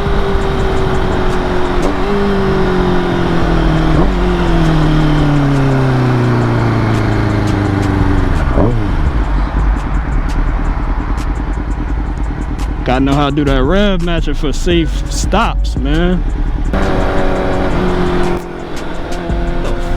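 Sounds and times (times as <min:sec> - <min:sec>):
motorcycle engine winding down: 0:00.0 - 0:15.0, 0:15.8 - 0:19.9.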